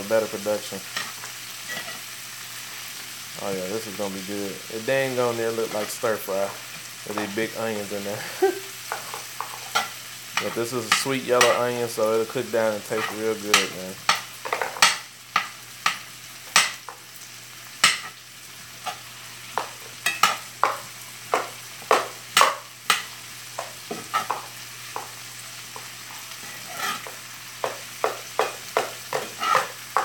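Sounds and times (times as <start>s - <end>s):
onions sizzling: 0.0s - 30.0s
utensil scraping a skillet: 0.8s - 3.0s, 3.8s - 8.0s, 8.8s - 17.0s, 17.8s - 30.0s.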